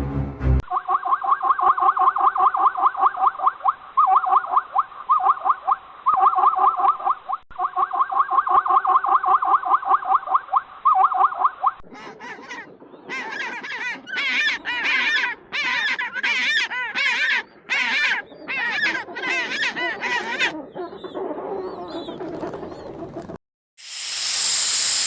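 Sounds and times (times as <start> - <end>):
farm birds calling: 0.8 - 23.0.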